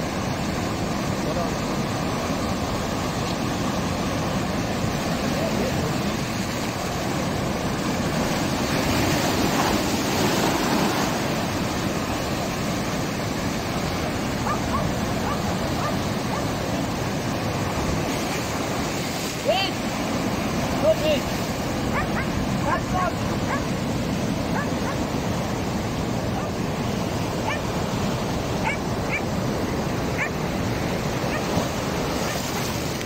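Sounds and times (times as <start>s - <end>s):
surf washing over rocks: 0.0s - 33.0s.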